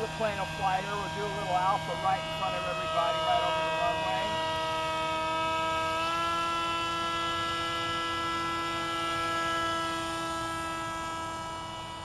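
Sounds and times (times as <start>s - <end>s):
model airplane motor humming: 0.0s - 12.0s.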